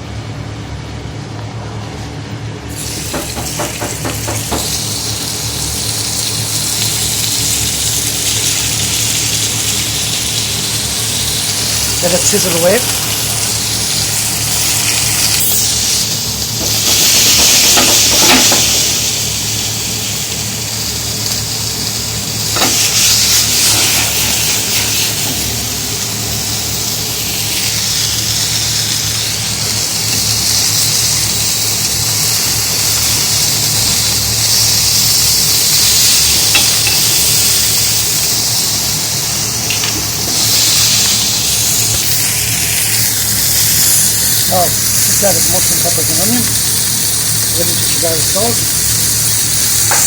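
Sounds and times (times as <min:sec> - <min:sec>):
chicken sizzling in a pan: 0:02.7 - 0:50.0.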